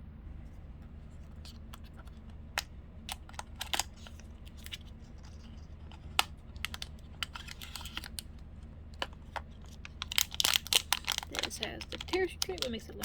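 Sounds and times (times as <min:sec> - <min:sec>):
steady low hum: 0:00.0 - 0:13.0
packaging clicks and crinkles: 0:01.2 - 0:13.0.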